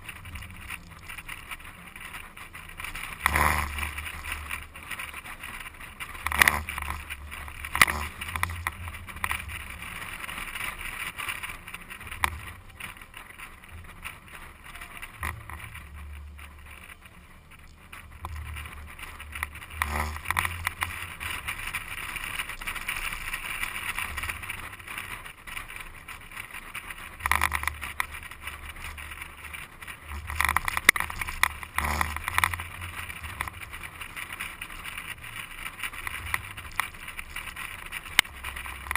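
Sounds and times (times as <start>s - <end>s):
wind and tyre noise: 0.0s - 38.9s.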